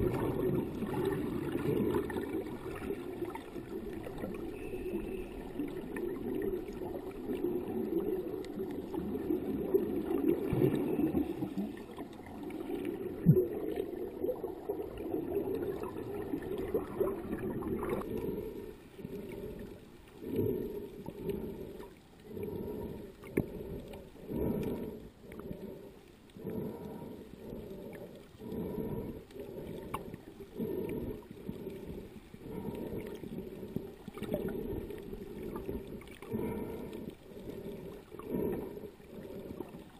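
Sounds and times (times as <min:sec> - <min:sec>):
underwater water rush and sloshing: 0:00.0 - 0:39.9.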